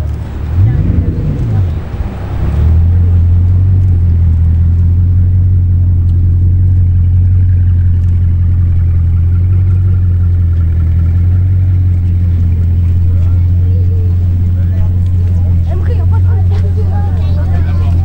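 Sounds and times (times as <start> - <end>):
car engine deep drone: 0.0 - 18.0.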